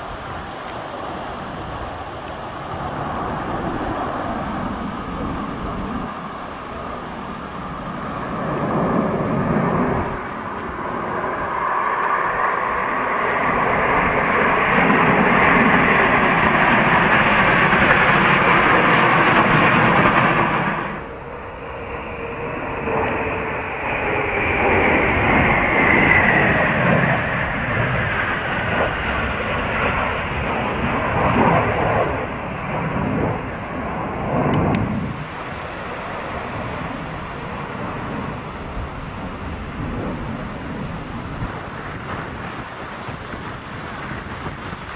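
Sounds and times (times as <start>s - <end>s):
jet engine roar: 0.0s - 44.9s.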